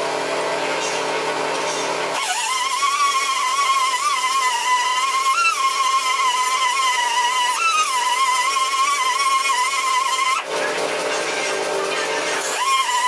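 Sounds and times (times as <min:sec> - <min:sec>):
power tool whining: 0:01.7 - 0:13.0.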